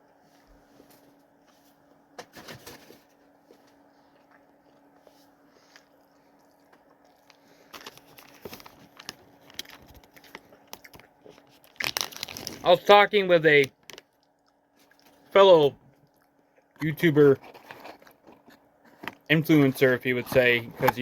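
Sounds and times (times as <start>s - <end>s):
faint chewing and crunching: 0.0s - 21.0s
faint steady hum: 0.0s - 21.0s.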